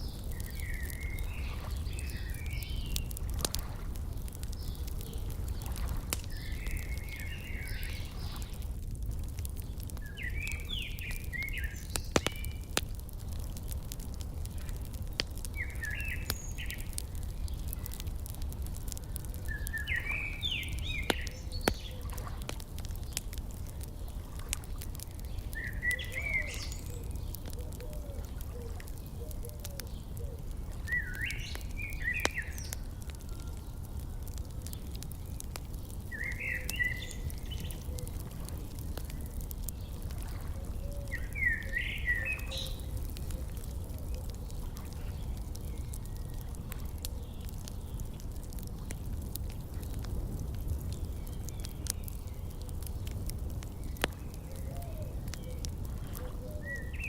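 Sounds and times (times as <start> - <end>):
songbird chirping: 0.0 - 8.7, 9.5 - 12.7, 13.3 - 48.2, 51.0 - 57.0
wood fire popping and crackling: 0.0 - 57.0.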